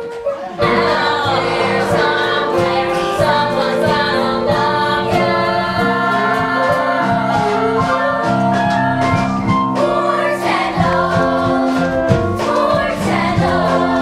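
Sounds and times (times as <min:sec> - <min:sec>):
instrumental accompaniment with beat: 0:00.0 - 0:14.0
group of voices singing: 0:00.3 - 0:14.0.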